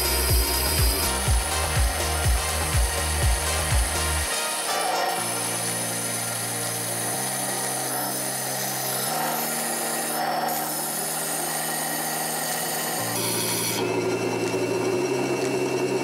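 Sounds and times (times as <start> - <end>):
disc sander sanding wood: 0.0 - 16.0
low background music notes: 0.0 - 16.0.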